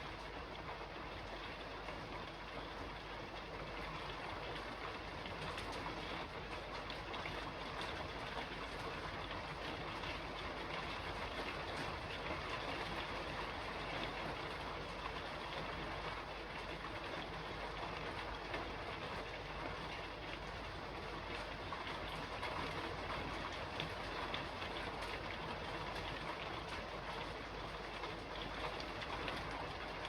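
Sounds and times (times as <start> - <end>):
rain on a roof: 0.0 - 30.0.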